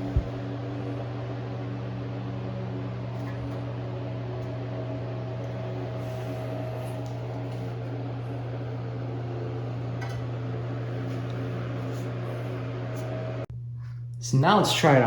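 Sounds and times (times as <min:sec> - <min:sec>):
desk fan humming: 0:00.0 - 0:15.0.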